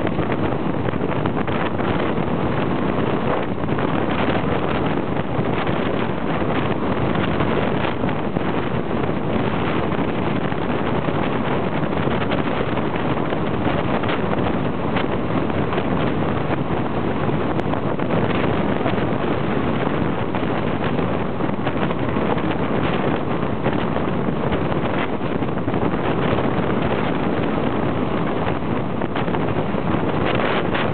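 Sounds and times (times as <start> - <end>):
strong wind on microphone: 0.0 - 30.9.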